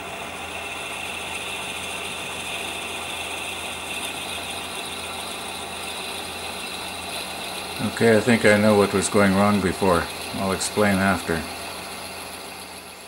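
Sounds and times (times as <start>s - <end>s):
drill bit boring into wood: 0.0s - 13.0s
wood lathe running: 0.0s - 13.0s.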